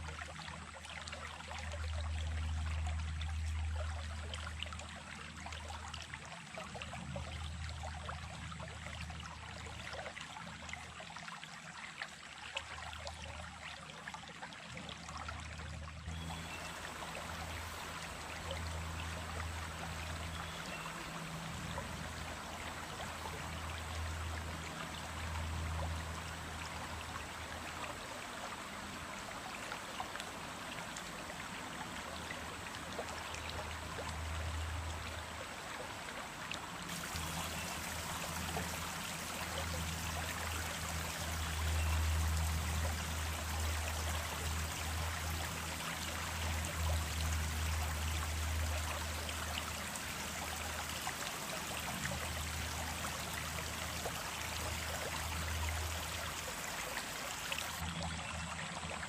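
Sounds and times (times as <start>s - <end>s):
stream of running water: 0.0s - 59.0s.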